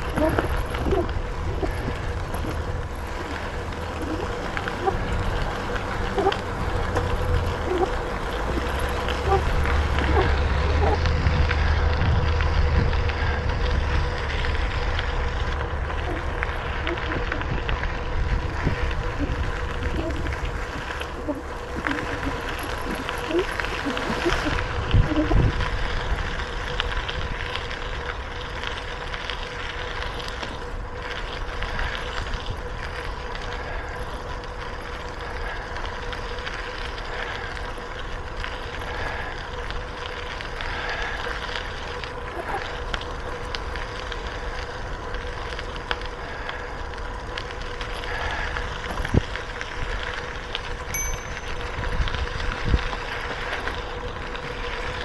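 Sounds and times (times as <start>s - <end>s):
bicycle tyre and riding noise: 0.0s - 55.0s
wind rumble on microphone: 0.0s - 55.0s.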